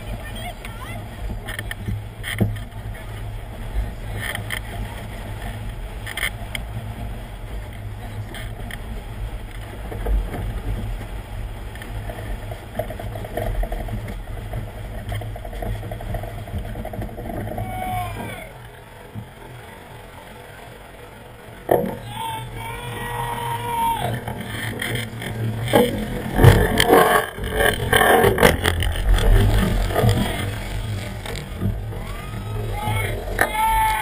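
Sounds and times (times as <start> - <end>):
water rushing along hull: 0.0 - 34.0.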